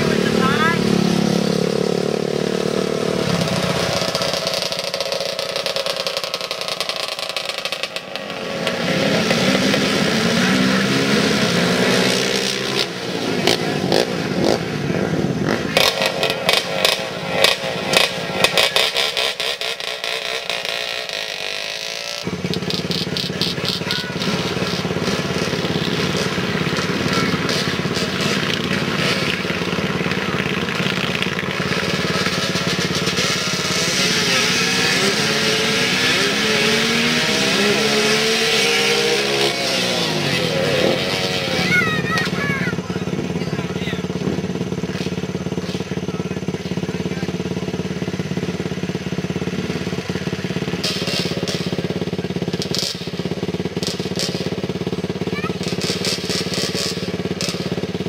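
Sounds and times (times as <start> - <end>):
atv engines revving: 0.0 - 58.0.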